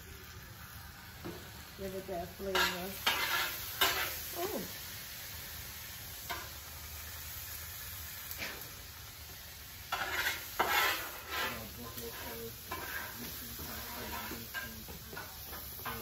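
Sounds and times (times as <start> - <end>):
butter and garlic sizzling: 0.0 - 16.0
stirring on grill: 0.2 - 16.0.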